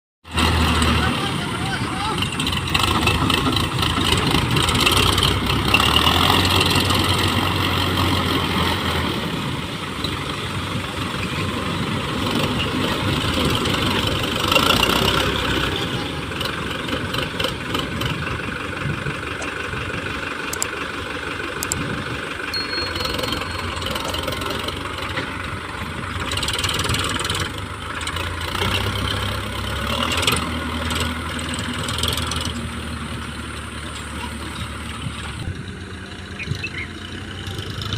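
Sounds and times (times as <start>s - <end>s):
tractor diesel engine running: 0.2s - 37.9s.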